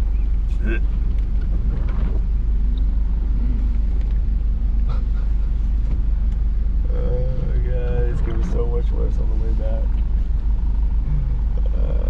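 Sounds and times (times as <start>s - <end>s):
vehicle driving rumble: 0.0s - 12.0s.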